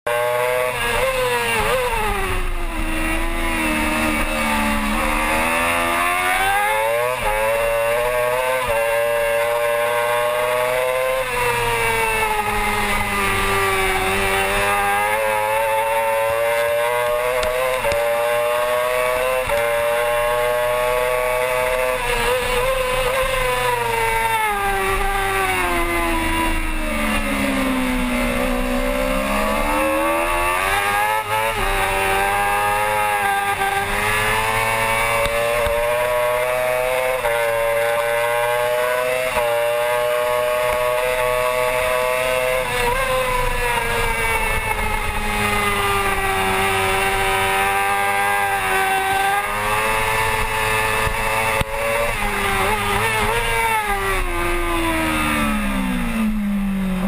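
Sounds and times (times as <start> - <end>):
motorcycle engine revving: 0.1 - 57.0.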